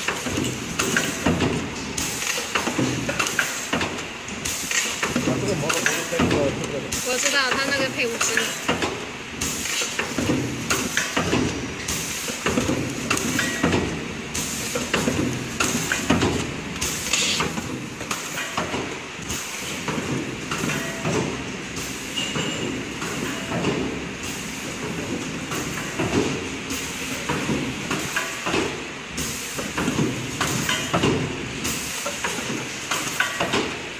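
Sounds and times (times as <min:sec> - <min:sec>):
printing machine clattering: 0:00.0 - 0:33.9.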